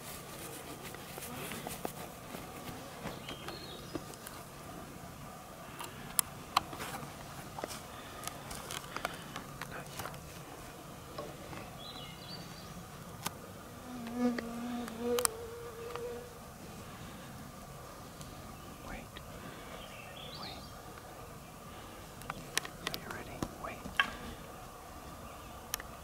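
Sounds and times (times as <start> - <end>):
flying insects buzzing: 0.0 - 26.0.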